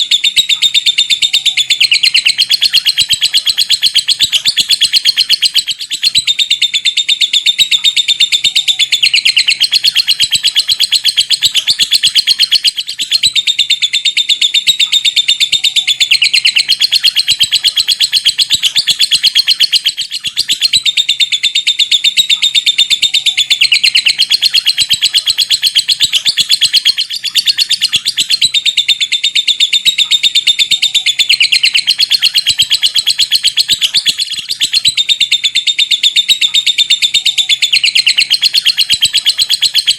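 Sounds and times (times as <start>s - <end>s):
lovebird chattering call: 0.0s - 39.9s.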